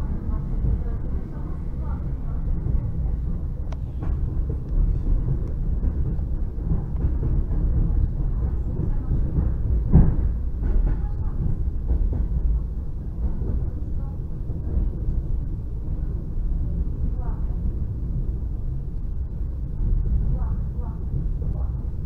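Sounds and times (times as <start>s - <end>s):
train carriage rumble: 0.0s - 22.0s.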